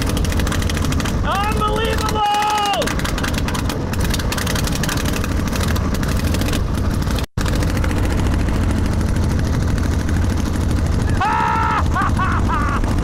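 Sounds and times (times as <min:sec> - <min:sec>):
motorcycle engine running hard: 0:00.0 - 0:13.0.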